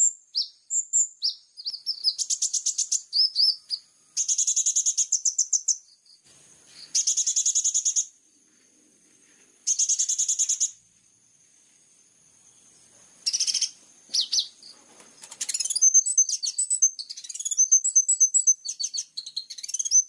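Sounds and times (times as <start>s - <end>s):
songbird trills: 0.0s - 8.7s, 9.3s - 11.0s, 12.4s - 20.0s.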